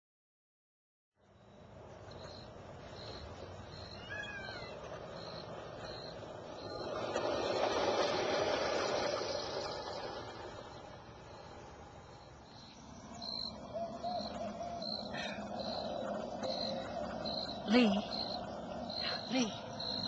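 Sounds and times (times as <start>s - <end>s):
insect chirping: 1.3s - 20.0s
rushing noise: 2.4s - 20.0s.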